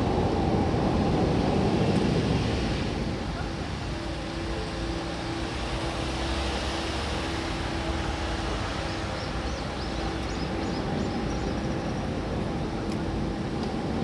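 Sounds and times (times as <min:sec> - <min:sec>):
ferry engines rumbling: 0:00.0 - 0:14.0.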